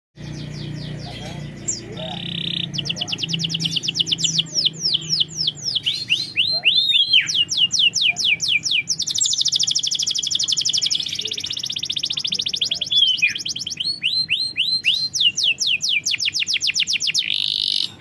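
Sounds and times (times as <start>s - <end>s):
canary singing: 0.2s - 18.0s.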